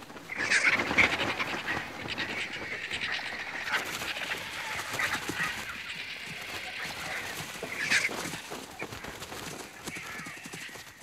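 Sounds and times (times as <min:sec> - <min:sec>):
vultures squabbling: 0:00.0 - 0:11.0.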